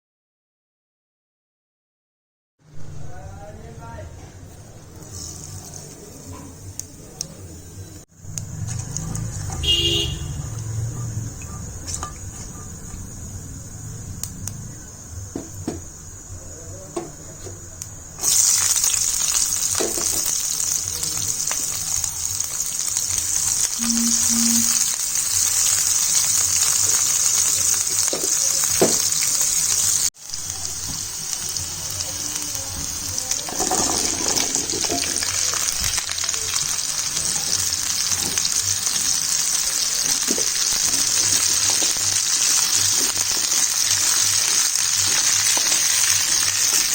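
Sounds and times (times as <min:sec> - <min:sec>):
pumpkin sizzling in hot oil: 0:04.9 - 0:06.9, 0:08.1 - 0:16.5, 0:17.7 - 0:46.9.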